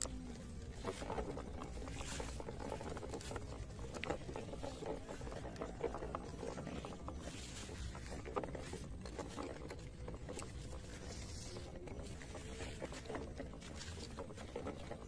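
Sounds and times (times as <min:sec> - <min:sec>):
tyres crackling over dirt and leaves: 0:00.0 - 0:15.0.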